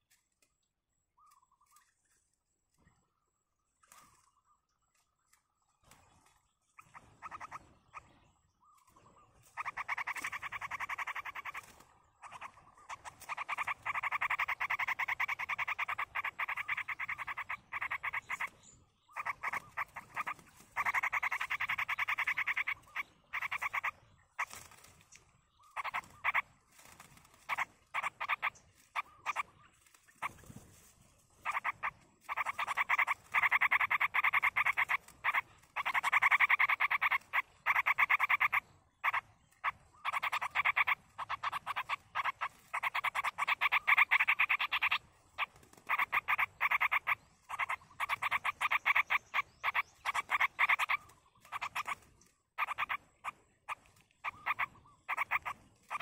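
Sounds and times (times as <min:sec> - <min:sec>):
animal fast pulsed trills: 0:06.8 - 0:08.2, 0:09.4 - 0:25.0, 0:25.7 - 0:30.7, 0:31.4 - 0:56.0.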